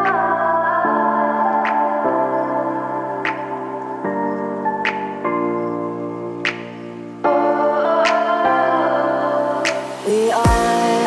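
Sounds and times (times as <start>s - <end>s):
soft ambient music: 0.0s - 11.0s.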